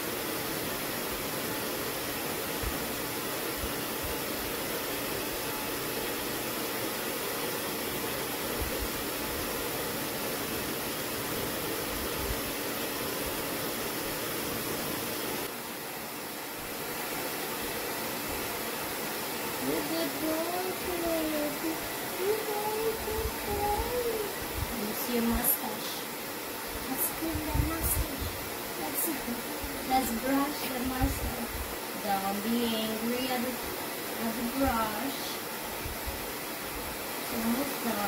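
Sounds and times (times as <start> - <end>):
hair dryer blowing: 0.0 - 38.0.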